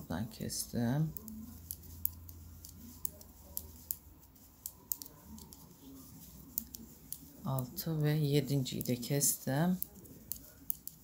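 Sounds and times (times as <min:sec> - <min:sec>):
knitting needles clicking: 0:00.6 - 0:11.0.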